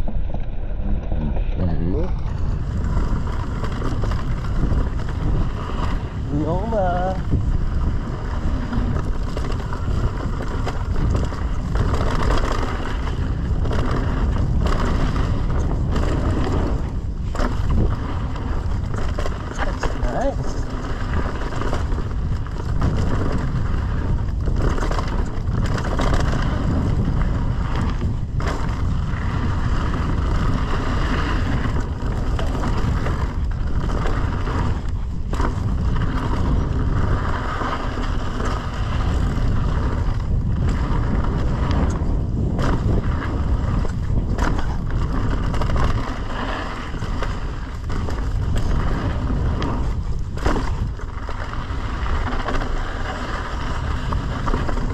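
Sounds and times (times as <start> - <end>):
bike tyres and rattle on dirt: 0.0 - 54.9
wind rushing on microphone: 0.0 - 54.9.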